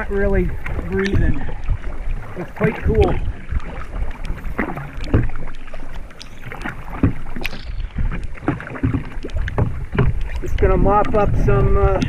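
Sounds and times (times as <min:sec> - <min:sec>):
paddle strokes splashing: 0:00.0 - 0:12.0
water lapping against hull: 0:00.0 - 0:12.0
wind rumble on microphone: 0:00.0 - 0:12.0.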